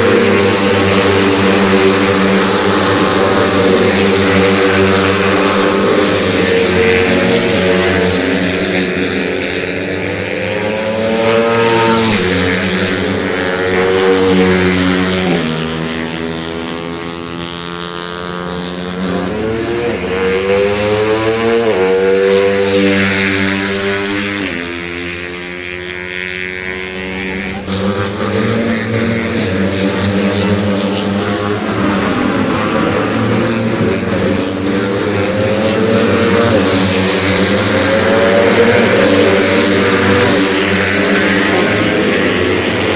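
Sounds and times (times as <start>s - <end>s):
motorcycles passing at full throttle: 0.0s - 42.9s.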